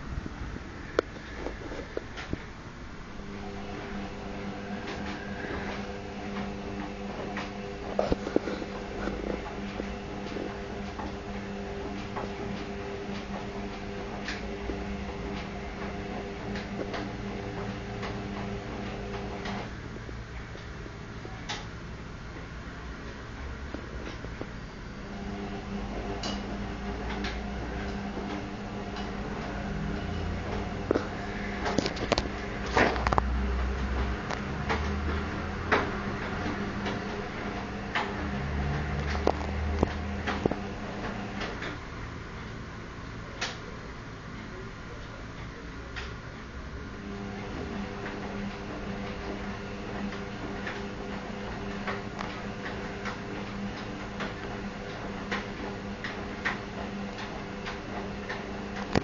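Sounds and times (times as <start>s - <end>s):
washing machine running: 0.0s - 59.0s.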